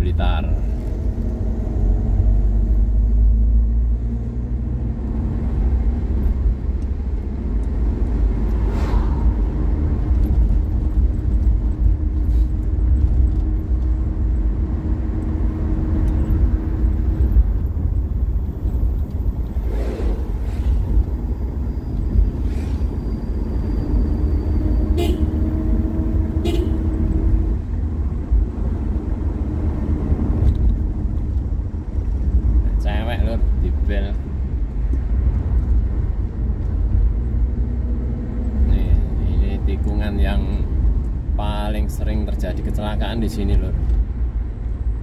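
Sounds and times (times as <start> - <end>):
car road noise: 0.0 - 45.0
faint engine hum: 0.0 - 45.0.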